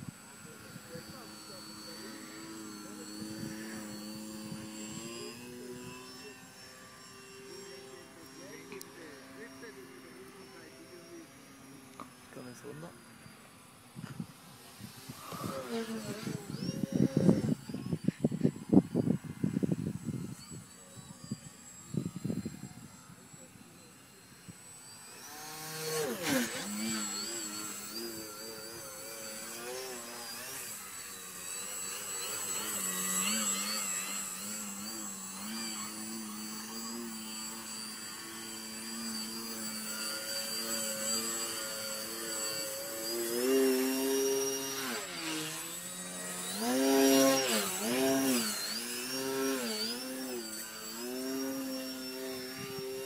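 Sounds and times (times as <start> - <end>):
model plane motor and propeller buzzing: 0.0 - 53.0.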